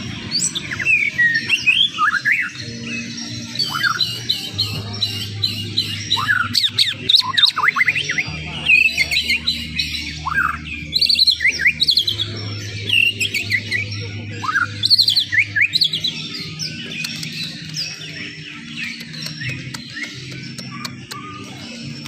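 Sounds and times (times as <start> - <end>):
bird singing whistled chirps: 0.0 - 22.0.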